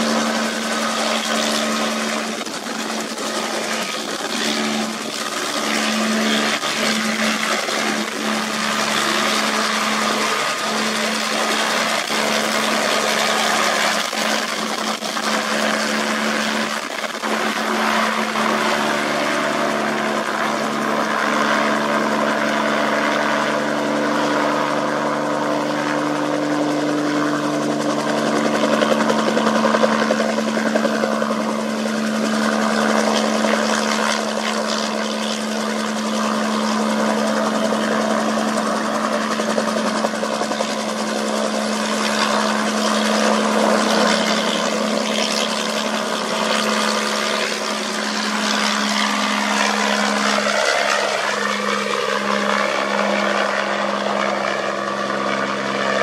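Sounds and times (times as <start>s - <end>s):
helicopter engine drone: 0.0s - 56.0s.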